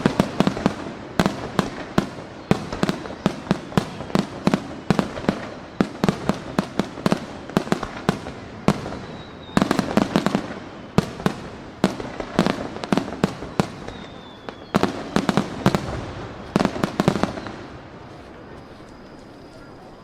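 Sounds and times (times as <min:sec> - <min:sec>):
fireworks bursting with bangs: 0:00.0 - 0:20.0.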